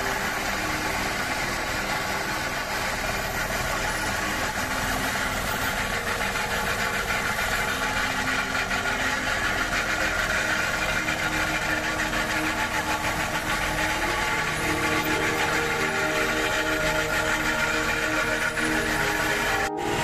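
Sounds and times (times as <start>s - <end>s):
machinery engine running: 0.0s - 20.0s.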